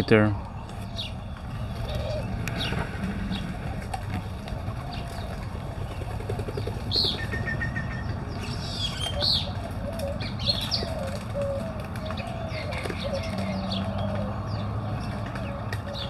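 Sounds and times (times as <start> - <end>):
birds chirping: 0.0 - 16.0
doves cooing: 0.0 - 16.0
wings flapping: 1.4 - 16.0.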